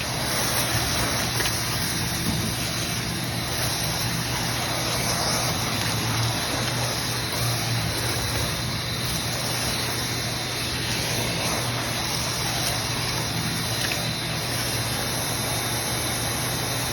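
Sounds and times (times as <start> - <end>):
blower motor running: 0.0 - 16.9
high whine: 0.0 - 16.9.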